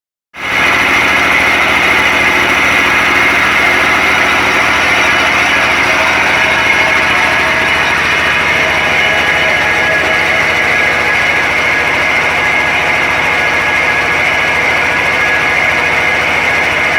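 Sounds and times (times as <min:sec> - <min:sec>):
machine engine running: 0:00.4 - 0:16.9.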